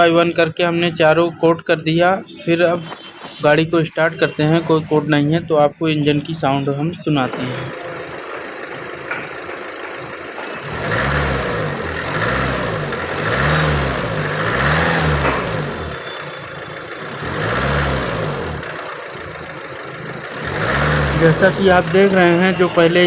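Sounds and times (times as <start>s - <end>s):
diesel engine idling and revving: 2.3s - 23.0s.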